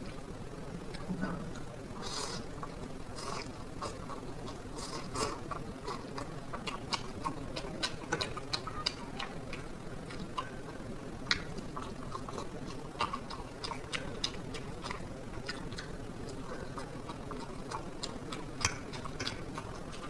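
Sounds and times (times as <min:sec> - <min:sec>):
person chewing with mouth clicks: 0:00.8 - 0:20.0.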